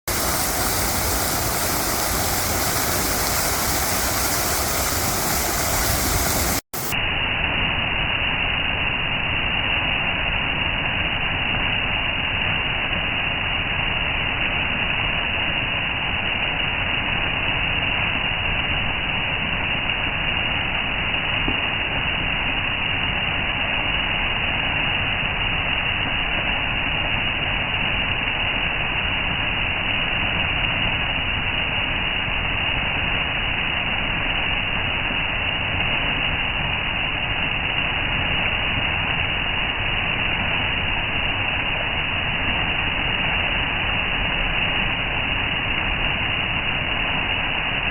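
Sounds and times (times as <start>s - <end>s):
fountain water splashing: 0.1s - 6.9s, 10.1s - 47.9s.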